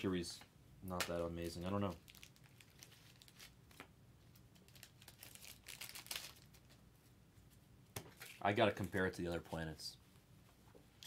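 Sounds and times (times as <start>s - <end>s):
soft crinkling and rustling: 0.3s - 11.0s.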